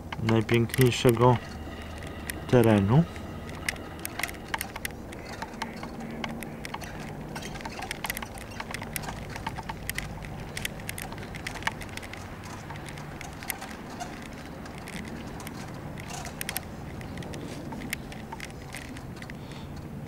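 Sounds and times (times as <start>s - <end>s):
small clicks and rattles: 0.0s - 20.0s
vehicle rolling over paving stones: 0.0s - 20.0s.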